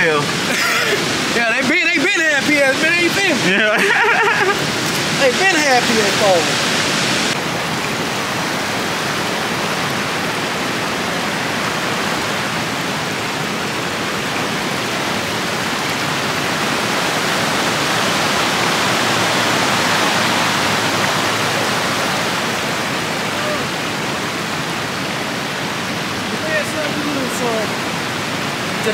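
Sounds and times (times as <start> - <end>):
running water rushing: 0.0 - 28.9.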